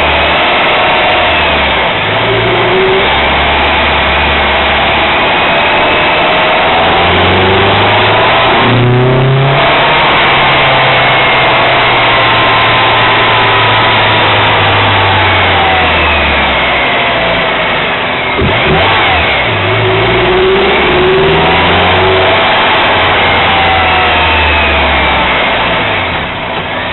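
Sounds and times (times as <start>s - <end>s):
car engine running: 0.0s - 26.9s
road and wind noise: 0.0s - 26.9s.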